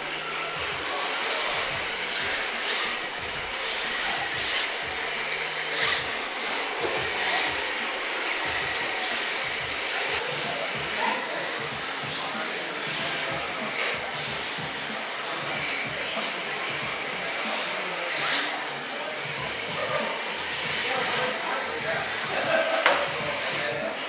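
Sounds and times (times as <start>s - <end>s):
rc cars electric motor whine: 0.0s - 24.0s
rc cars swishing: 0.0s - 24.0s.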